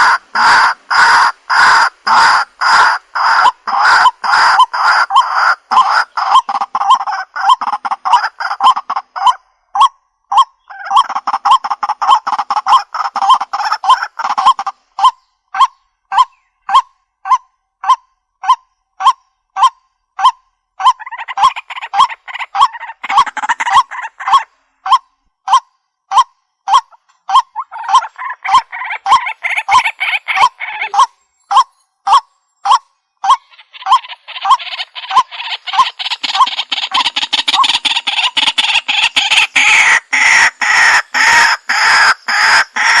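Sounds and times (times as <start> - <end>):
rough bird chattering: 0.0 - 43.0
waterhen harsh repeated calls: 0.0 - 43.0.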